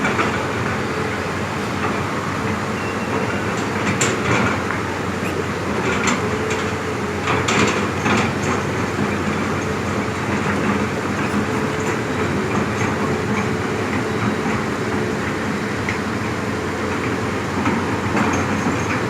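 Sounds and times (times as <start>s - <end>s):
diesel machinery running: 0.0s - 19.0s.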